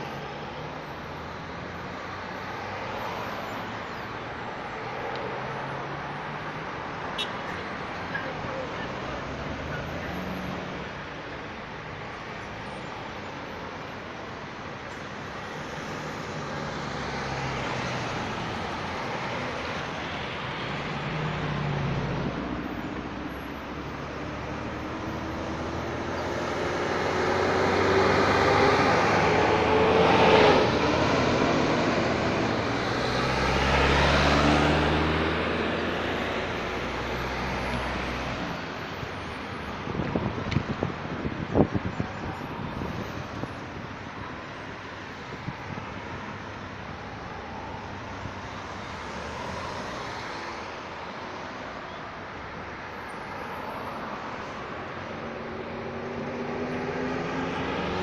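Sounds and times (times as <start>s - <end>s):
road traffic driving past: 0.0s - 58.0s.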